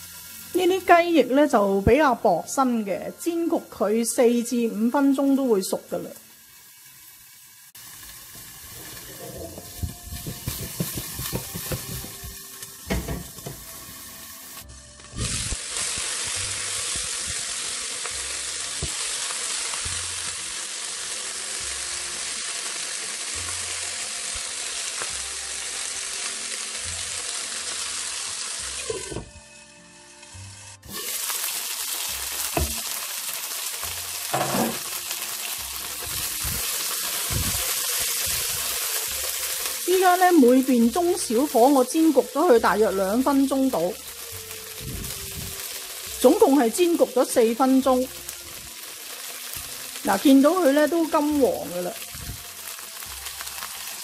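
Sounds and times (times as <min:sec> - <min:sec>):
chicken wings sizzling in oil: 0:00.0 - 0:54.0.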